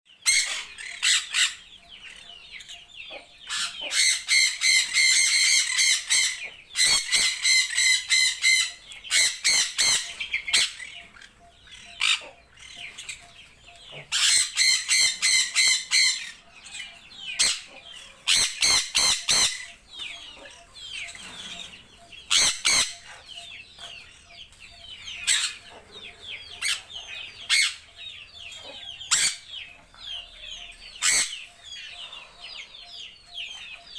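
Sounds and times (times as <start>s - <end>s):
faint bird chirping: 0.1s - 33.9s
birds squawking harshly: 0.2s - 2.4s, 3.1s - 24.2s, 25.0s - 30.2s, 30.8s - 32.8s.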